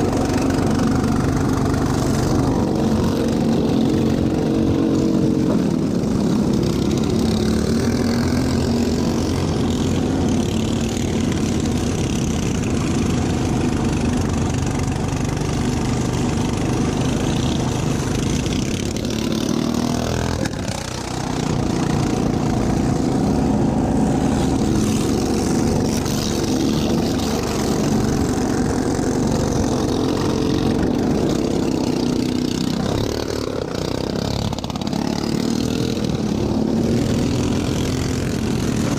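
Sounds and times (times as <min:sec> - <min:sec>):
lawn mower engine running hard: 0:00.0 - 0:38.9.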